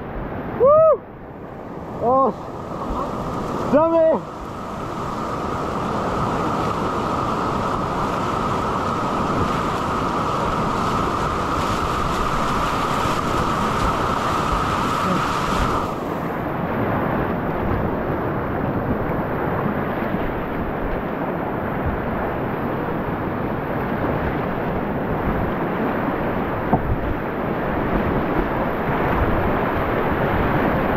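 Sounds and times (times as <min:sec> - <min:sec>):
whitewater rushing: 0:00.0 - 0:30.9.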